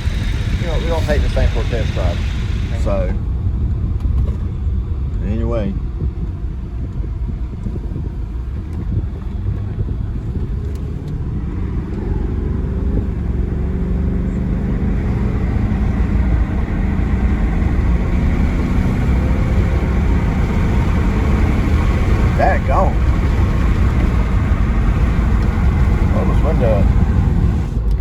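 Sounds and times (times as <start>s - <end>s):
car engine accelerating: 0.0s - 28.0s
road noise inside car: 0.0s - 28.0s.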